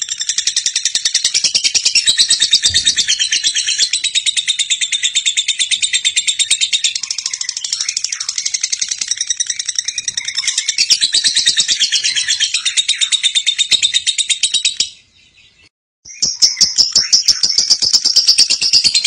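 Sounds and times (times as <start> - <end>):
lovebird chattering trill: 0.0 - 15.0, 16.1 - 19.0.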